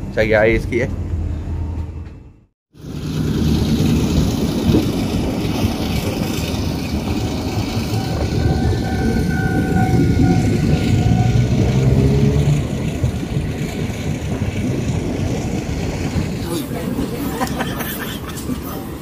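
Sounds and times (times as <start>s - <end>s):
train wheels rumbling on rail: 0.0s - 19.0s
wind noise: 3.2s - 19.0s.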